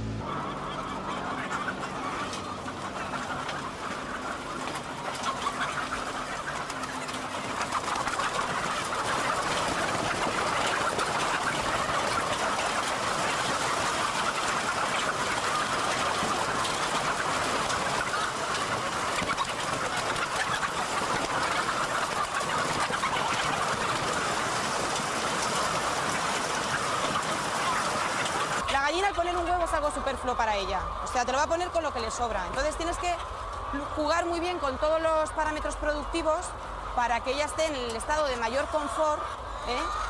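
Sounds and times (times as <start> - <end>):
hens clucking: 0.0 - 40.0.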